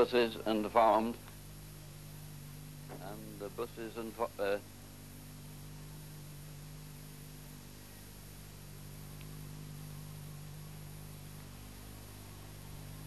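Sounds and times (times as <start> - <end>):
tape hum and hiss: 0.0 - 13.0.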